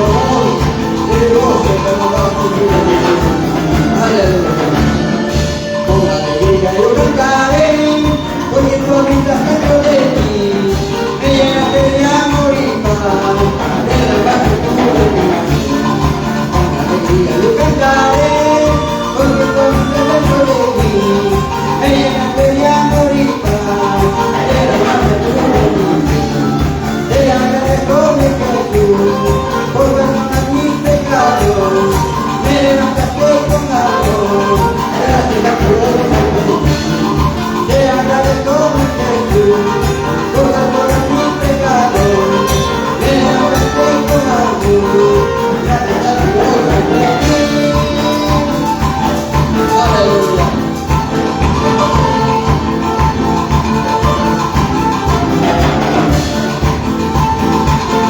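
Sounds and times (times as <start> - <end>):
live christian praise music: 0.0 - 58.0.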